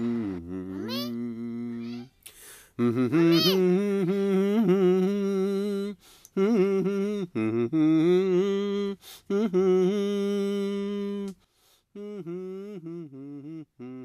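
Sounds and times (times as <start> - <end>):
person singing long held notes: 0.0 - 2.1, 2.8 - 11.4, 12.0 - 14.0.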